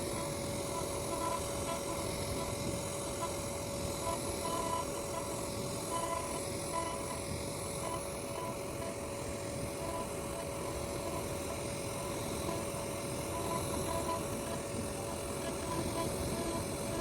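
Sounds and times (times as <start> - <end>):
router spindle carving wood: 0.0 - 17.0.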